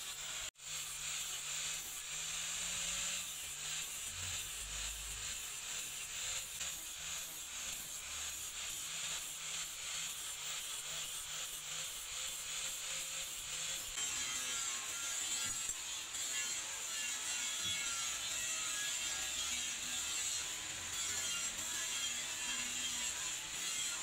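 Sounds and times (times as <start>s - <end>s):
angle grinder sanding steel: 0.0s - 24.0s.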